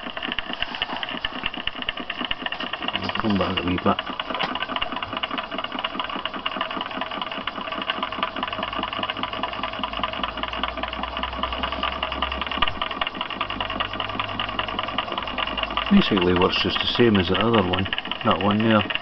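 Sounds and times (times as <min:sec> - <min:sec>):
small engine mechanical clatter: 0:00.0 - 0:19.0.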